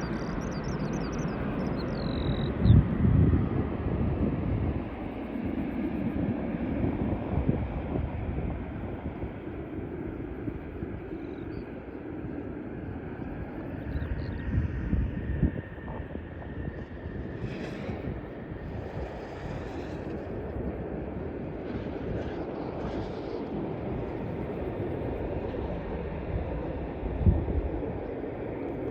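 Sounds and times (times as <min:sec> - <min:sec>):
jet airliner flying past: 0:00.0 - 0:28.9.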